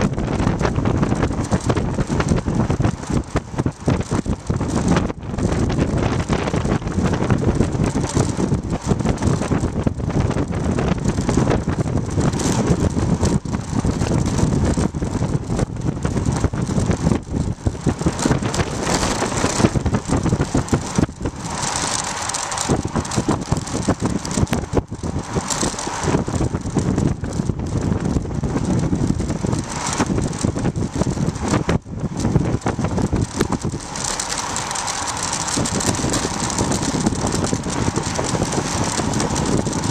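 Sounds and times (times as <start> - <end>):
handlebar mount rattling: 0.0 - 39.9
wind rushing over microphone: 0.0 - 39.9.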